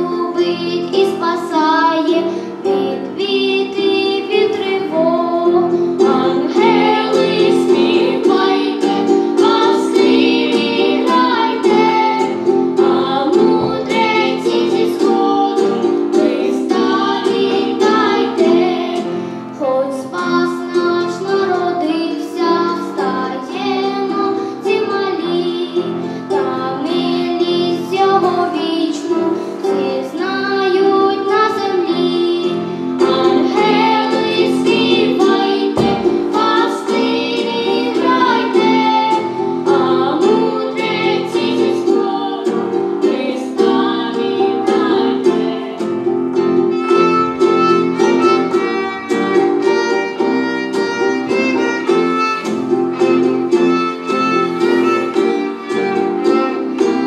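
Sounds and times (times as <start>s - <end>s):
children singing: 0.0s - 57.0s
instrumental accompaniment: 0.0s - 57.0s.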